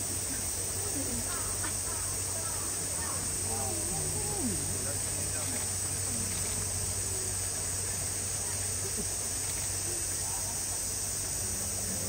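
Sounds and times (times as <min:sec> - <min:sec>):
cicada chorus drone: 0:00.0 - 0:12.0
faint chatter of visitors: 0:00.0 - 0:12.0.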